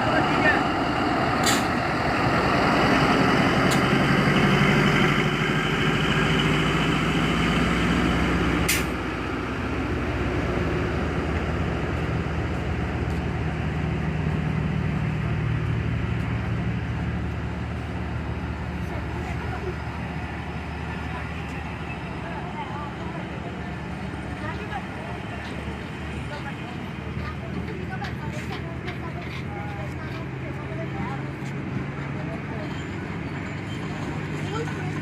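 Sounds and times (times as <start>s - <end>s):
diesel locomotive engine drone: 0.0s - 35.0s.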